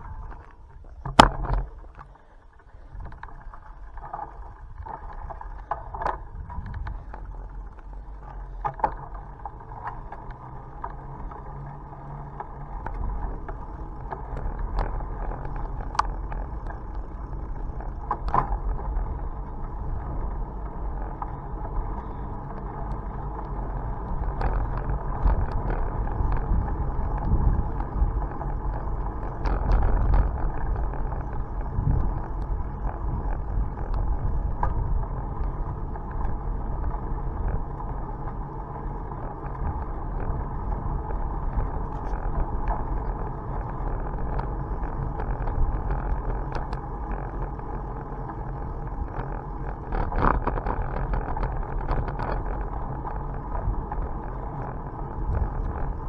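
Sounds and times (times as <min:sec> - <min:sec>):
bicycle clicks and rattles: 0:00.0 - 0:56.0
bicycle tyres rumbling on road: 0:00.0 - 0:56.0
wind on microphone: 0:02.8 - 0:56.0.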